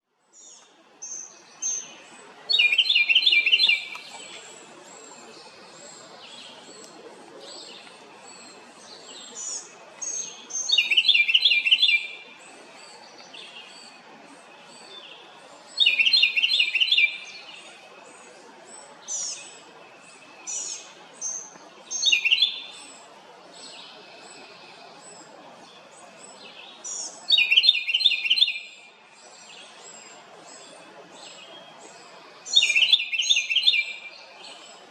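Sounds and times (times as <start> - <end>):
wren singing: 0.4 - 34.9.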